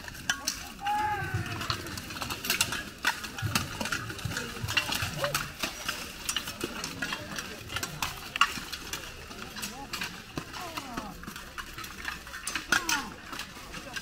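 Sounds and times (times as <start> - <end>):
voices: 0.0 - 14.0
weapons clanking against armour: 0.0 - 14.0.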